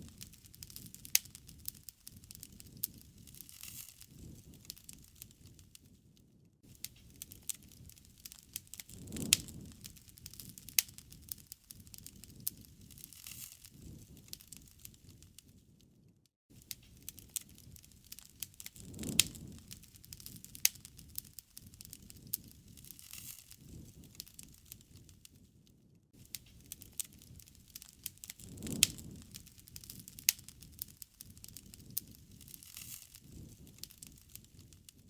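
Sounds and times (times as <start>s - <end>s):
low rush of flames: 0.0s - 35.0s
wood fire crackling and popping: 0.0s - 35.0s.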